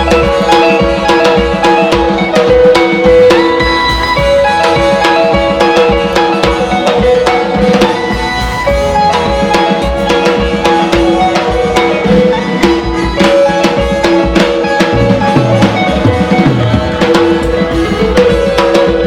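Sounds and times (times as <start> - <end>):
music with steady drum beat: 0.0 - 19.0.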